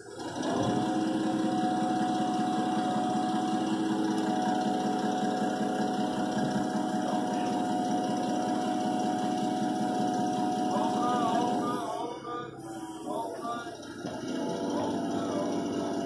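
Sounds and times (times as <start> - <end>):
forklift engine under load: 0.0 - 16.0
steady whine: 0.0 - 16.0.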